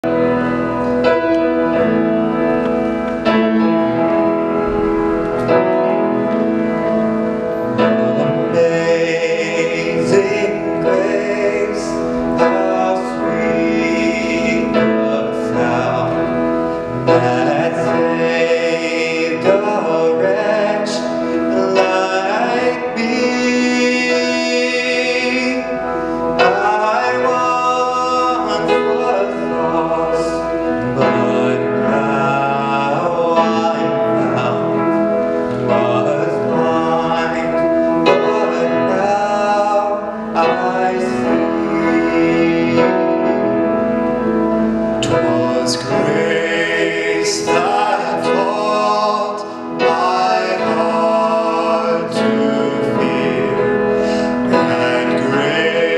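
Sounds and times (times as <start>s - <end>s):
choir singing a hymn: 0.0s - 55.9s
piano accompaniment: 0.0s - 55.9s.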